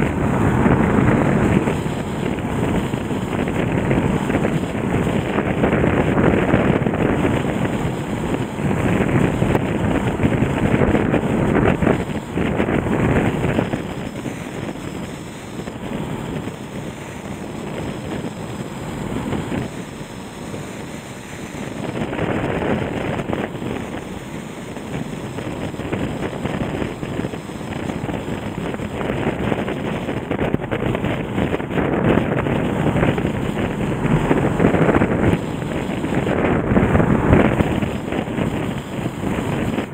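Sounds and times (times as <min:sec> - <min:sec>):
floodwater rushing: 0:00.0 - 0:39.9
wind buffeting microphone: 0:00.0 - 0:39.9.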